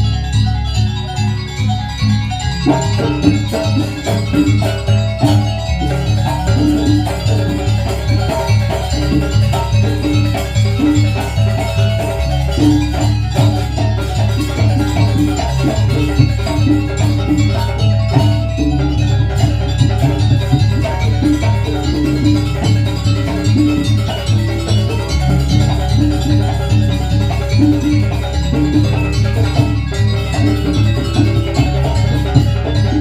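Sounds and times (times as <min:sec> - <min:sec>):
metallophones ringing melody: 0:00.0 - 0:33.0
pulsing low drum beat: 0:02.1 - 0:33.0.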